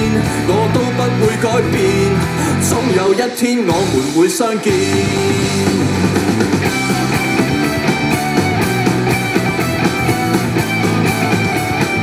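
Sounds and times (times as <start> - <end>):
guitar pop song through speaker: 0.0 - 12.0.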